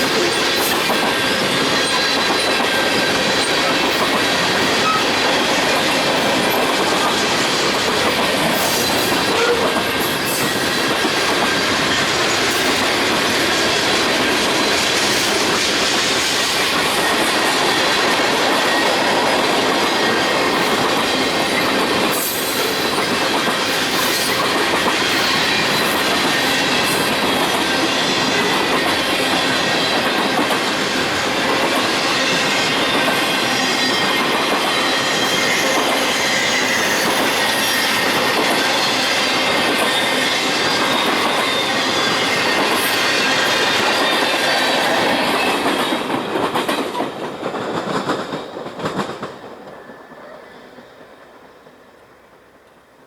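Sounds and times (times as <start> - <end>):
train wheels on rail: 0.0 - 53.0.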